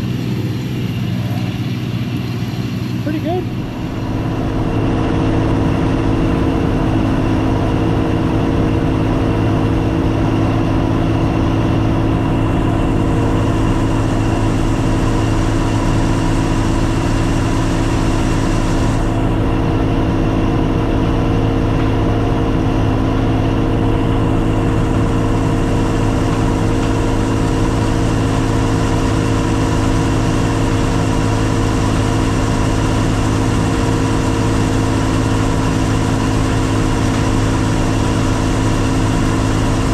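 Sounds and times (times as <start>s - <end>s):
combine harvester diesel engine drone: 0.0s - 39.9s.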